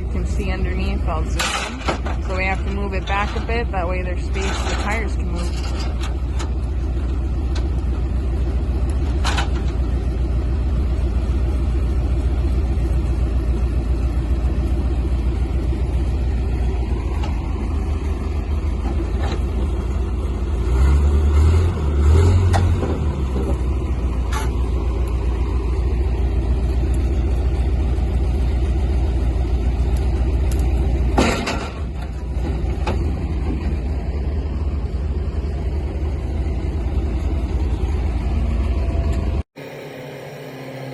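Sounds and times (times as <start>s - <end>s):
heavy vehicle engine rumble: 0.0s - 40.9s.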